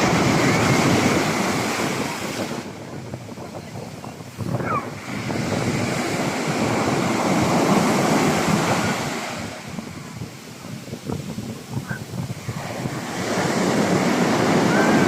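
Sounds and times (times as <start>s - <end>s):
sea waves breaking: 0.0s - 15.0s
wind on microphone: 0.0s - 15.0s.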